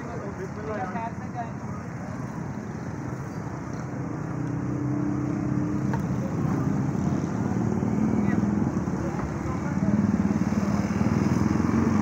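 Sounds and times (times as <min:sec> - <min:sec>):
vehicle engine low drone: 0:00.0 - 0:12.0.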